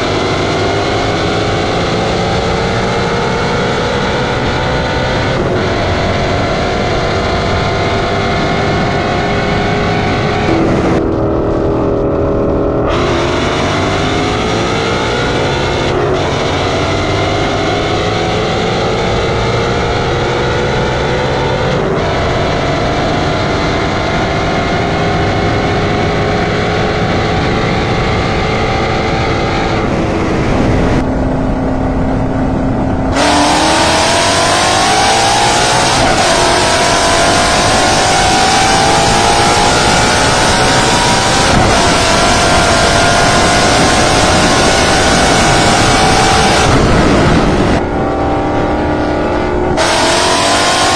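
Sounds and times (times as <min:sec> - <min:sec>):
car engines accelerating hard: 0:00.0 - 0:50.9.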